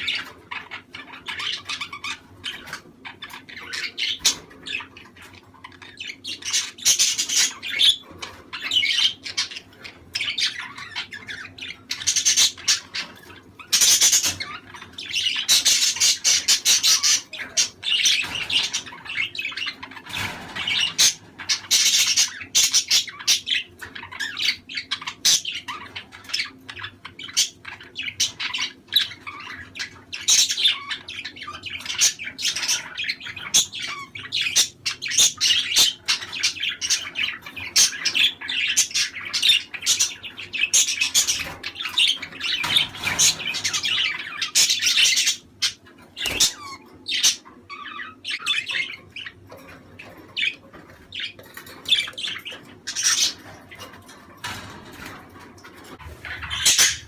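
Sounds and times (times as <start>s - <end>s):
budgerigar chirps and squawks: 0.0s - 54.7s, 56.0s - 57.0s.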